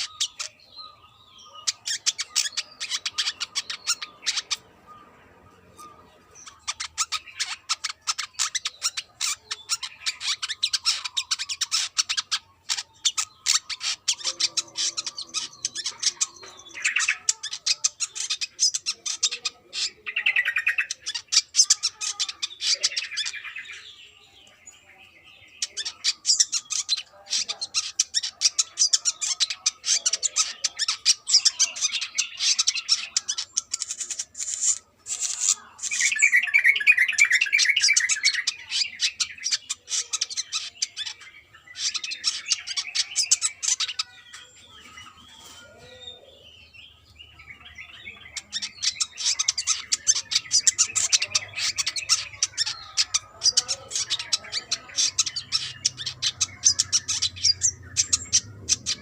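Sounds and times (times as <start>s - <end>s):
sunbird chattering song: 0.0s - 59.0s.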